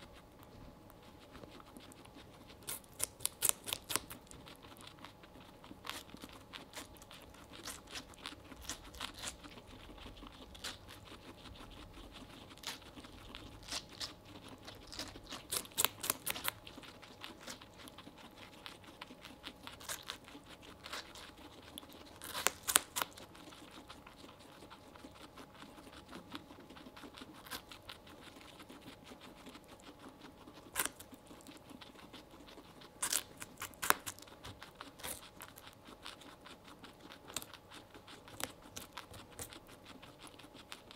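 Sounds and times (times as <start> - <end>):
guinea pigs chewing watermelon: 0.0 - 40.9.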